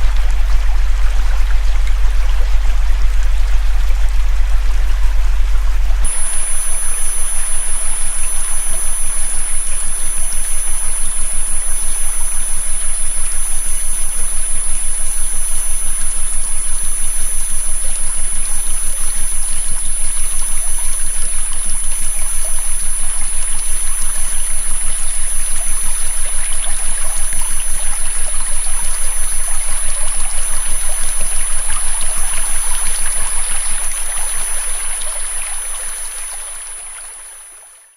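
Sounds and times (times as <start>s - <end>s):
low hum: 0.0s - 37.6s
river water flowing: 0.0s - 37.9s
high-pitched electronic tones: 6.0s - 37.4s.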